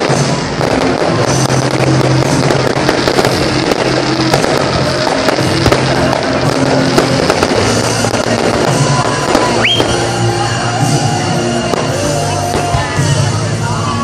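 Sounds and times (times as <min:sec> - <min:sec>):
fireworks bursting and crackling: 0:00.0 - 0:14.0
music playing: 0:00.0 - 0:14.0.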